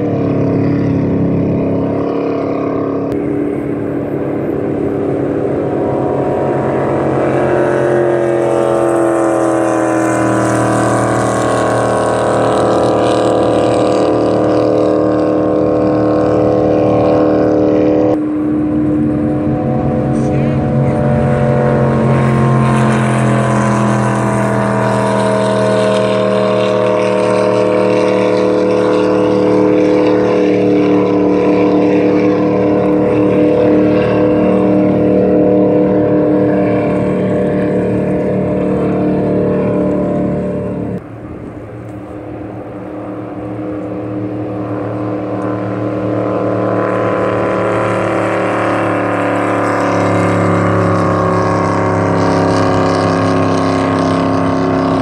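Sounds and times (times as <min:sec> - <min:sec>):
jet boat engines droning: 0:00.0 - 0:55.0.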